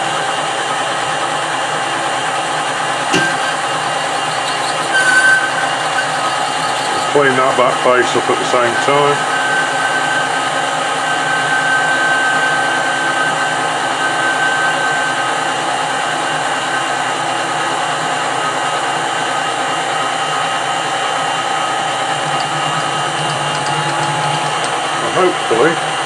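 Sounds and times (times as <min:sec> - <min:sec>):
metal lathe motor and gear whine: 0:00.0 - 0:26.0.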